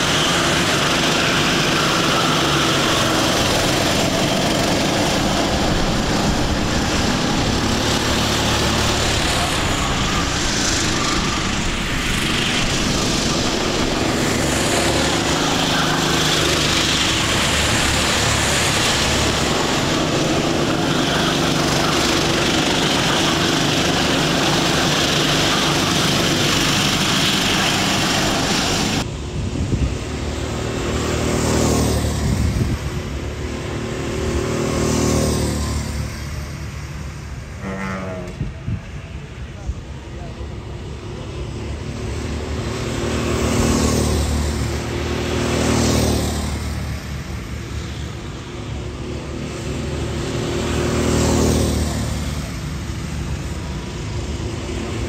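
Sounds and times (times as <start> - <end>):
kart engine approaching: 0.0 - 39.2, 40.1 - 55.0
racing kart engines droning: 0.0 - 55.0.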